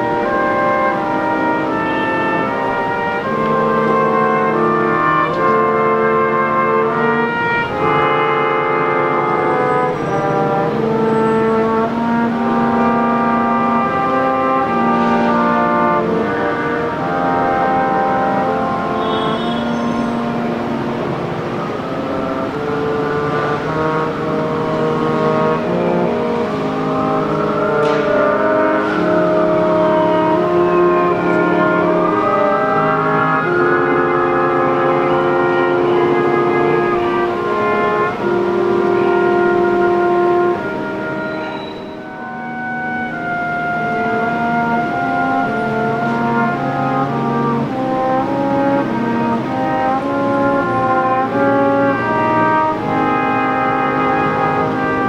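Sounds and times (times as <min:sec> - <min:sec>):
brass quintet playing slow chords: 0:00.0 - 0:55.0
passing vehicle whine: 0:00.0 - 0:55.0.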